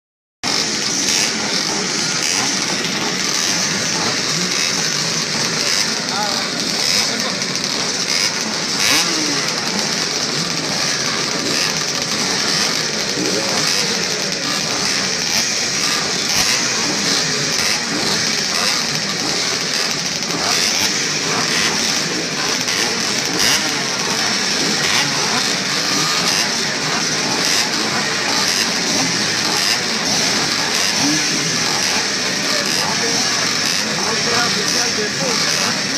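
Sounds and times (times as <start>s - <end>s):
many motocross engines buzzing: 0.4s - 35.9s.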